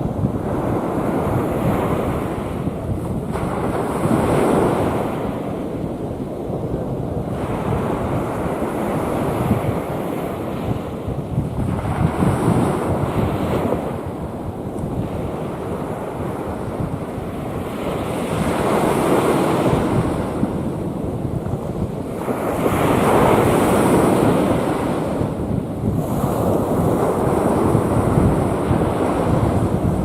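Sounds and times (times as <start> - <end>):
sea waves breaking: 0.0 - 30.0
wind buffeting microphone: 0.0 - 30.0.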